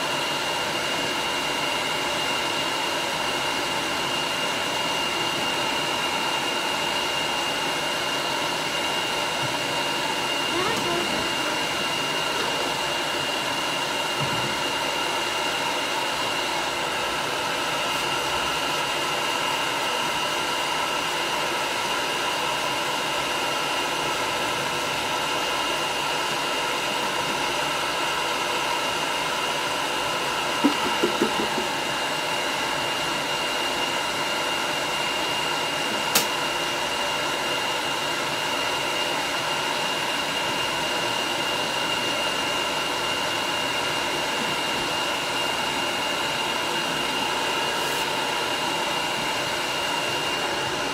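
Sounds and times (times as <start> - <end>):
hair dryer running: 0.0 - 50.9.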